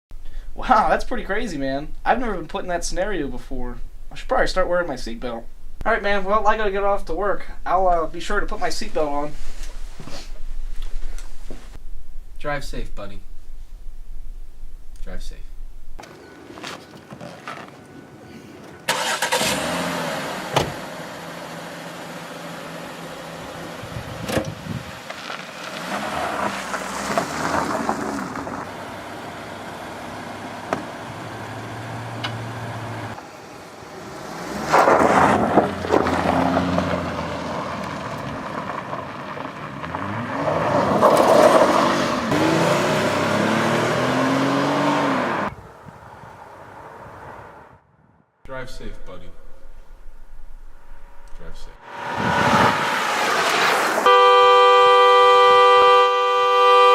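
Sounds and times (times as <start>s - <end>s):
car driving: 0.2s - 47.9s, 48.5s - 56.9s.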